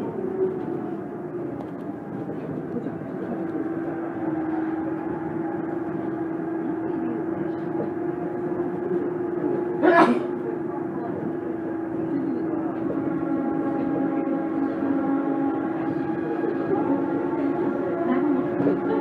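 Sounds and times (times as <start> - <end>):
train motor whine: 0.0 - 19.0.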